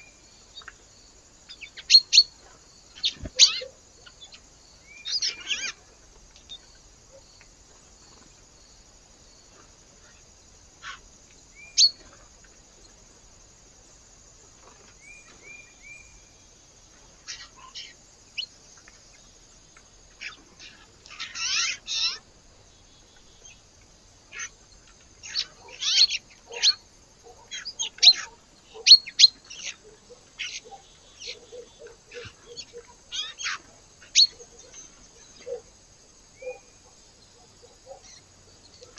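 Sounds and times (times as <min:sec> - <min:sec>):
small birds chirping: 0:00.0 - 0:08.4, 0:09.5 - 0:13.4, 0:14.5 - 0:38.9.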